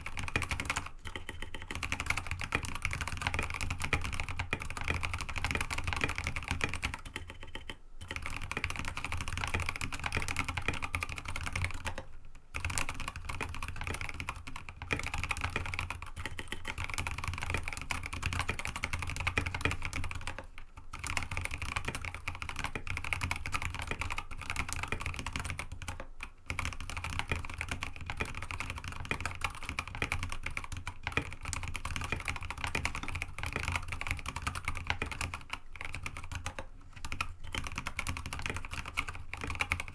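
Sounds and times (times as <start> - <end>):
clacky mechanical keyboard typing: 0.0 - 39.9.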